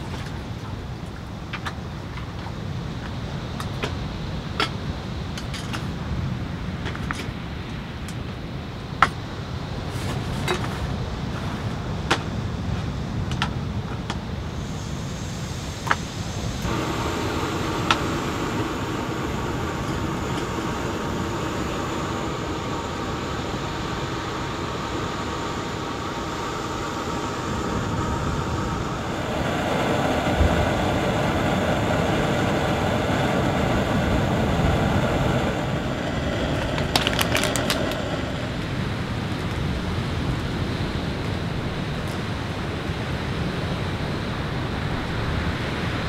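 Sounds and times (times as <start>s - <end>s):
gas burner hissing: 0.0s - 46.0s.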